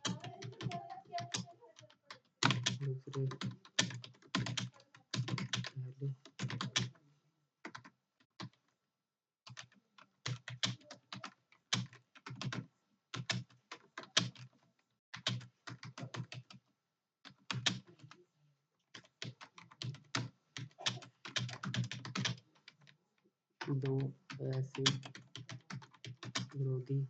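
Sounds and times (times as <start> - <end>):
computer keyboard typing: 0.0 - 7.0, 7.6 - 8.6, 9.5 - 14.6, 15.2 - 16.6, 17.3 - 18.2, 19.0 - 23.0, 23.6 - 27.0.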